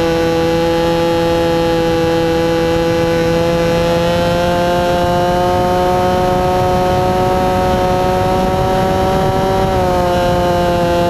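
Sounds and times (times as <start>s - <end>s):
model plane motor buzzing: 0.0s - 11.0s
wind on microphone: 0.0s - 11.0s.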